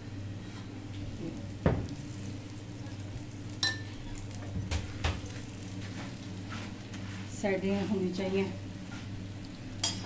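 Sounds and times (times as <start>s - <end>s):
ghee sizzling on hot pan: 0.3s - 10.0s.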